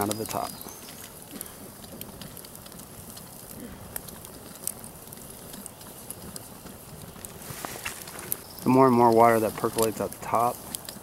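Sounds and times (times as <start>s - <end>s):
campfire crackling: 0.0s - 11.0s
fire pops: 0.0s - 11.0s.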